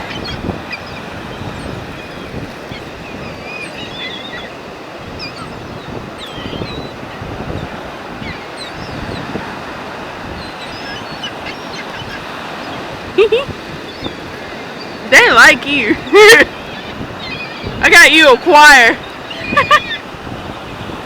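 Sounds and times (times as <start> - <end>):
bird calls: 0.0 - 21.0
ocean surf: 0.0 - 21.0
wind on microphone: 0.0 - 21.0.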